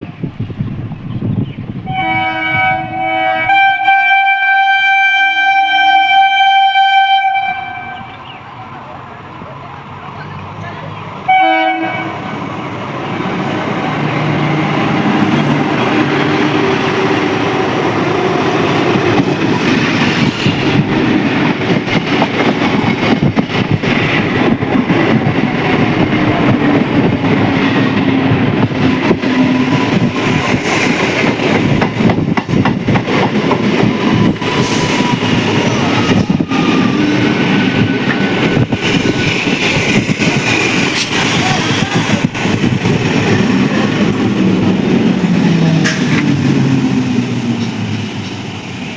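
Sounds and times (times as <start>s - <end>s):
train passing with clickety-clack: 0.0s - 48.9s.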